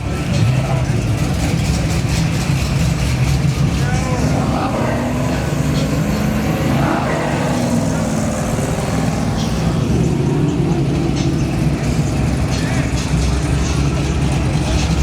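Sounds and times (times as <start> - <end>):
car engines idling: 0.0 - 15.0
people talking: 0.0 - 15.0.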